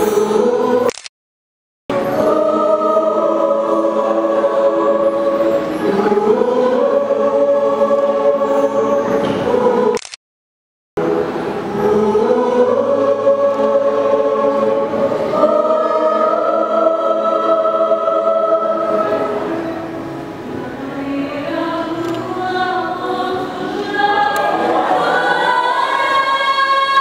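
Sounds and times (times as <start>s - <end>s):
choir singing in harmony: 0.0s - 0.9s, 1.9s - 10.0s, 11.0s - 27.0s.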